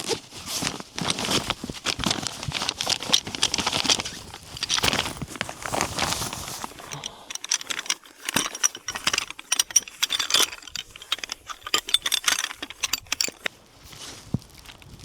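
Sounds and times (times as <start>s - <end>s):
small hard objects clinking: 1.1s - 15.0s.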